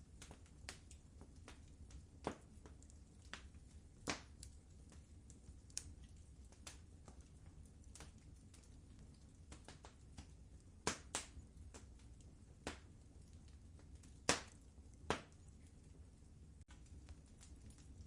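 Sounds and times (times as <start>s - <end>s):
fireplace fire crackling: 0.0s - 18.0s
low steady rumble: 0.0s - 18.0s.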